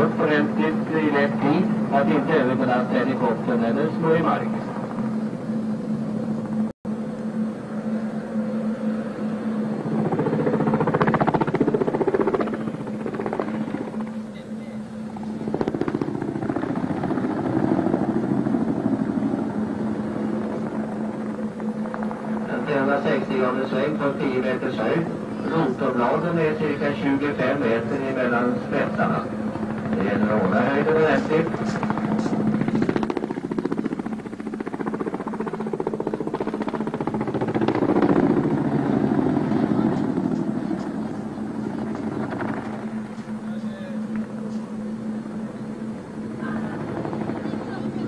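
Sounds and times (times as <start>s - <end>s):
helicopter engine hum: 0.0s - 48.0s
helicopter rotors beating: 0.0s - 48.0s.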